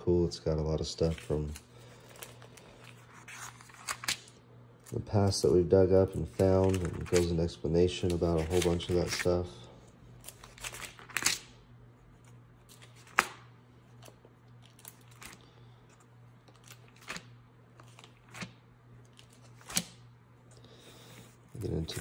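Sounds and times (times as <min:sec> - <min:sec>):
thin pages turning: 0:01.0 - 0:09.5, 0:10.2 - 0:11.5, 0:12.1 - 0:20.0.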